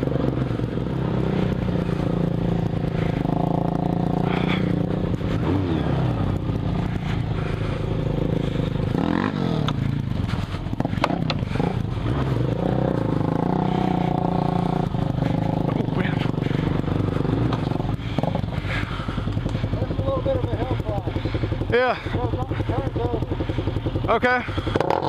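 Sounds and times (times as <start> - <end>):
bike rattling over bumps: 0.0 - 25.0
motorcycle engine running: 0.0 - 25.0.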